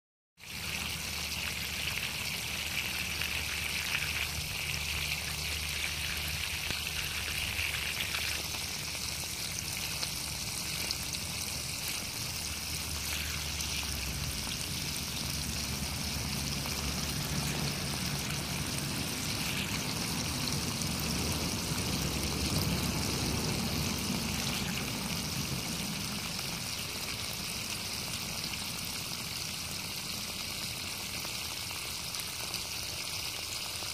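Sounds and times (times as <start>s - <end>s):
water splashing from garden hose: 0.4s - 33.9s.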